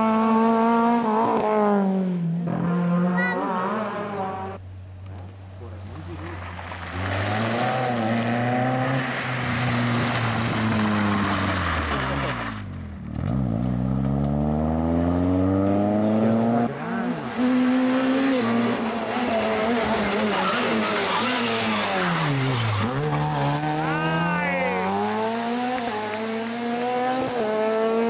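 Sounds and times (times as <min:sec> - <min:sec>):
car engine revving through corner: 0:00.0 - 0:04.6, 0:05.9 - 0:28.0
rally car engine revving: 0:00.0 - 0:28.0.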